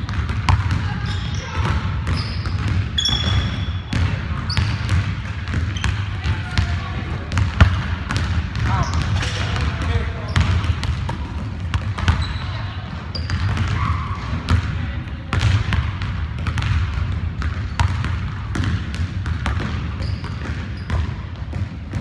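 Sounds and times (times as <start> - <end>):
basketball bouncing on wooden floor: 0.0 - 22.0.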